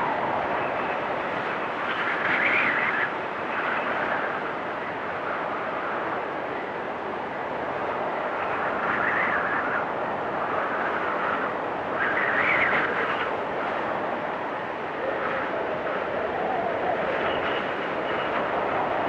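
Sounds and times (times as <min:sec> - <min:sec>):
wind storm whistling: 0:00.0 - 0:19.0.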